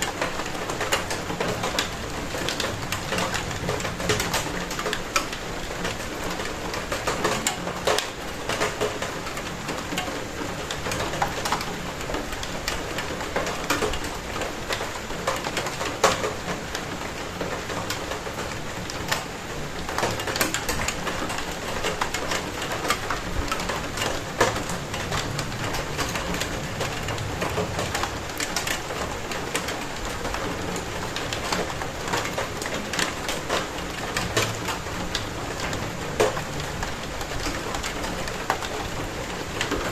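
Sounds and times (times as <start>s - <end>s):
raindrops tapping a hard surface: 0.0s - 39.9s
steady rain: 0.0s - 39.9s.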